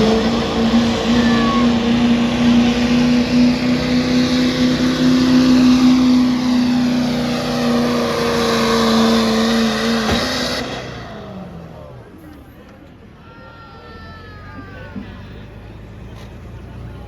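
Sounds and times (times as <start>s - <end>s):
diesel truck engine at high revs: 0.0s - 12.6s, 15.2s - 17.0s.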